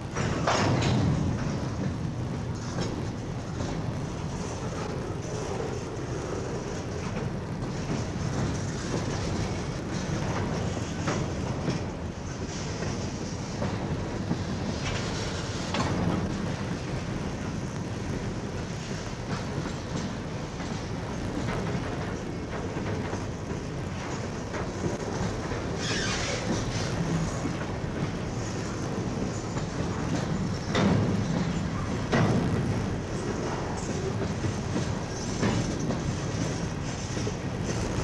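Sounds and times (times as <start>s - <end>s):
freight train cars rumbling: 0.0s - 38.0s
wheels clicking over rail joints: 0.0s - 38.0s.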